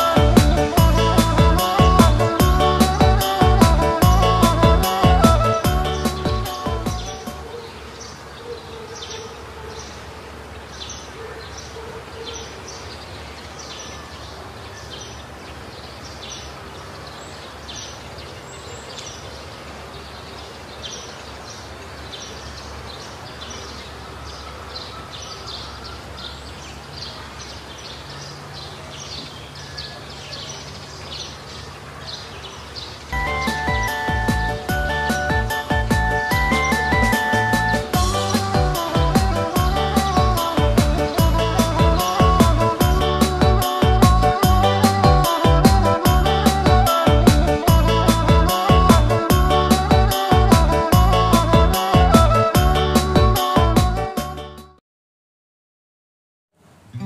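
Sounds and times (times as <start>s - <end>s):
outdoor background noise: 0.0s - 50.4s, 56.5s - 57.0s.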